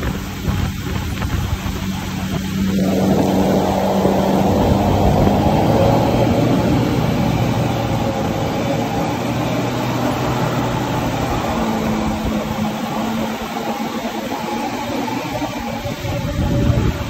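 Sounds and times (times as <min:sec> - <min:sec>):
jet ski engine humming: 0:00.0 - 0:17.0
water spray rushing: 0:00.0 - 0:17.0
wind on microphone: 0:00.0 - 0:17.0.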